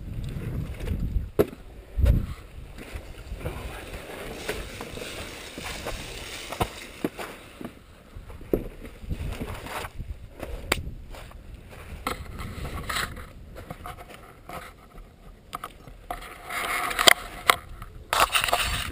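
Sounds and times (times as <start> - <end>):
rustling: 2.2 - 18.9.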